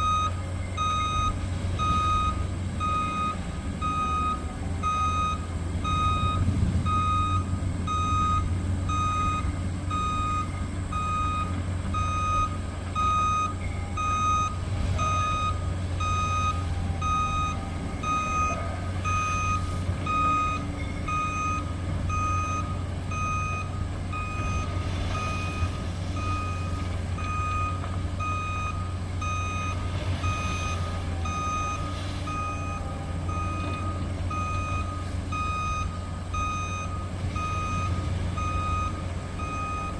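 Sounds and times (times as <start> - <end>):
diesel engine rumble: 0.0 - 39.9
truck backup alarm beeping: 0.0 - 39.9.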